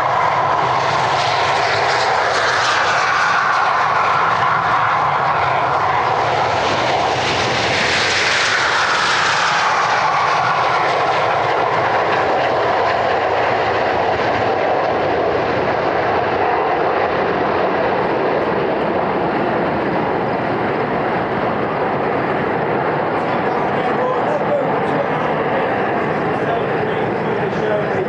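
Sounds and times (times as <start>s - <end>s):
jet engines whining: 0.0s - 28.0s.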